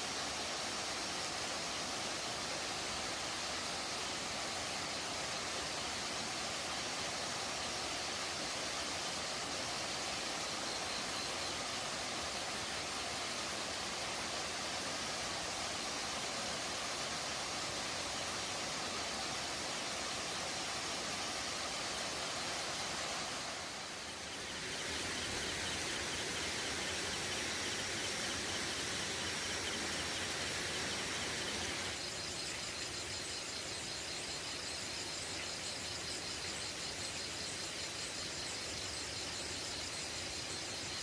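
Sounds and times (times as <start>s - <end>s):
high pulsing insect trill: 0.0s - 41.0s
hiss of insects: 0.0s - 41.0s.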